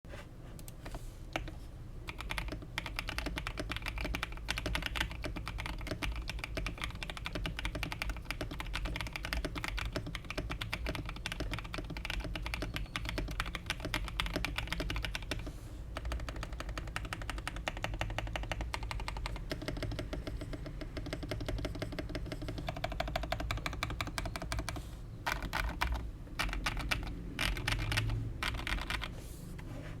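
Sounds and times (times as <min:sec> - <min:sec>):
mechanical keyboard typing: 0:02.1 - 0:29.2.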